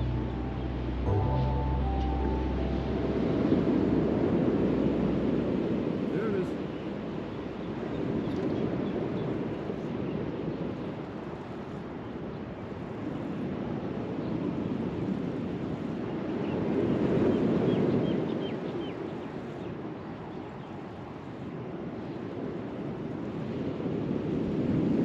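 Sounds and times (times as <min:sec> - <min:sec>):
surf rushing on beach: 0:00.0 - 0:20.3
wind buffeting microphone: 0:03.2 - 0:25.0.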